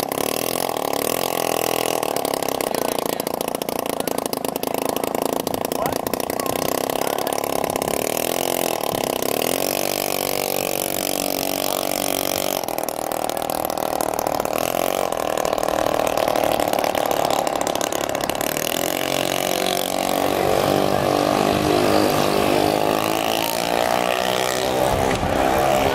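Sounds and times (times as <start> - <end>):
louder engine: 0.0 - 25.9
moped engine revving: 0.0 - 25.9.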